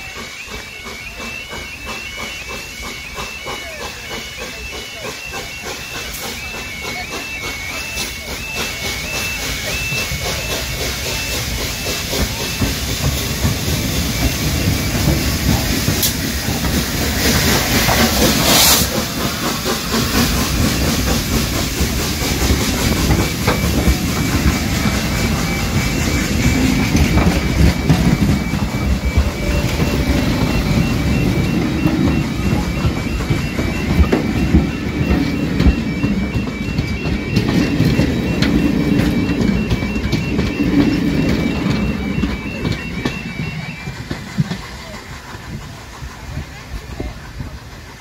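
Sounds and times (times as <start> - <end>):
level crossing alarm two tones: 0.0 - 45.0
steam hissing: 0.0 - 48.0
steam locomotive exhaust beats: 0.0 - 48.0
train wheels rumbling: 0.0 - 48.0.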